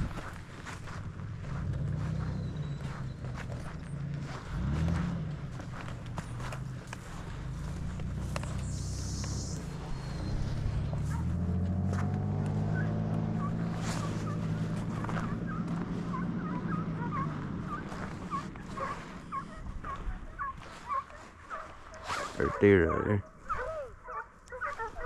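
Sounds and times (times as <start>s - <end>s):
vehicle engine revving: 0.0s - 23.2s
hounds yelping: 0.2s - 25.0s.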